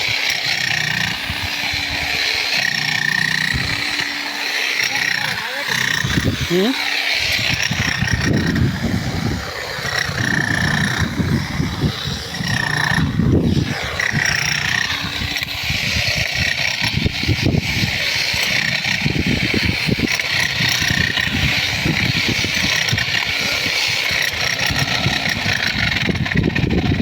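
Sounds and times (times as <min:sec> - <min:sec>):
drilling machine rumbling: 0:00.0 - 0:27.0.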